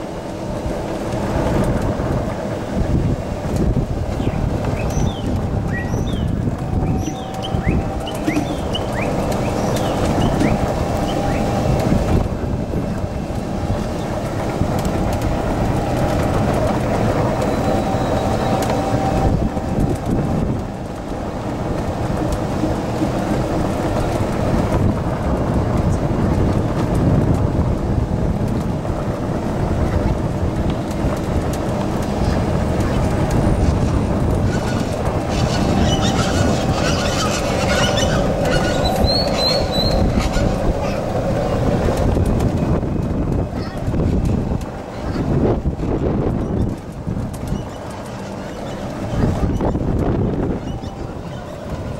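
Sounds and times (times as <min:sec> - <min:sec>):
golf cart running and rattling: 0:00.0 - 0:51.9.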